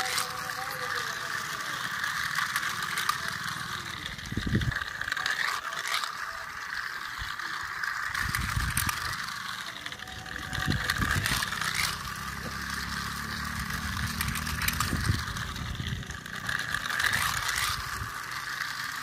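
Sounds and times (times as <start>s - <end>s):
toy car motor whirring: 0.0s - 19.0s.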